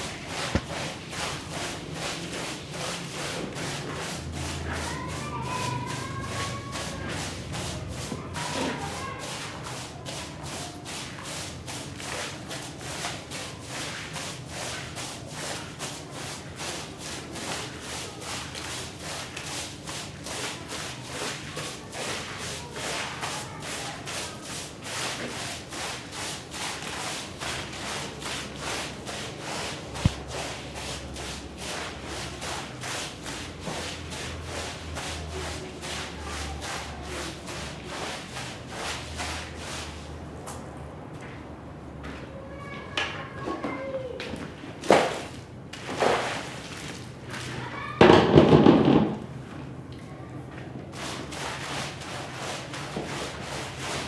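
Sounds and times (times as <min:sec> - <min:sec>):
brush scrubbing a rug: 0:00.0 - 0:40.4, 0:44.9 - 0:47.7, 0:50.9 - 0:54.0.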